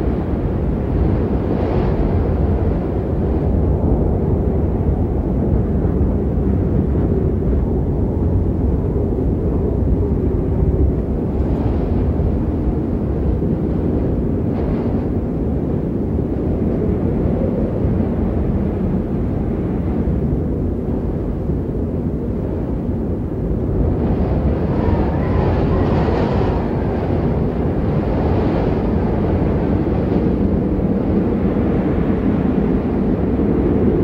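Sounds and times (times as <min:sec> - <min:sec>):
strong wind roaring: 0:00.0 - 0:34.0.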